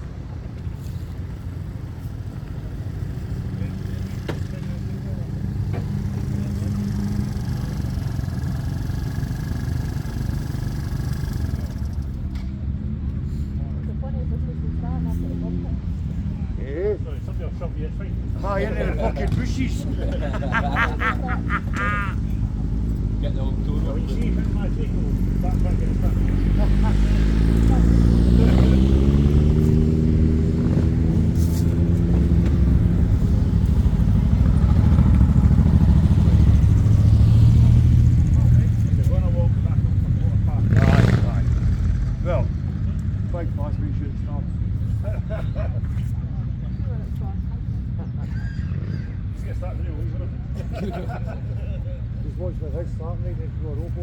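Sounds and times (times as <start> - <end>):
motorcycle engines idling: 0.0 - 54.0.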